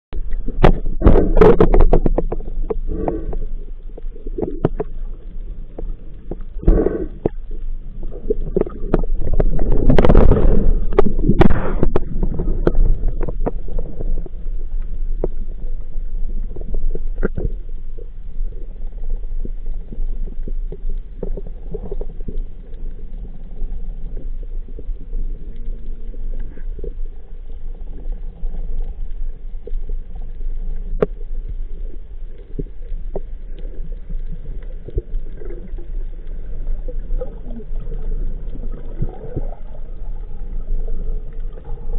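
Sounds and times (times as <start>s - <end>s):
underwater rumble and gurgle: 0.0s - 41.9s.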